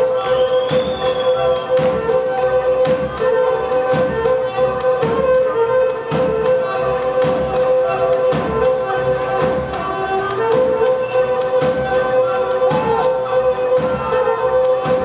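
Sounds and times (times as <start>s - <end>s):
drum beats: 0.0s - 15.0s
sustained folk melody: 0.0s - 15.0s.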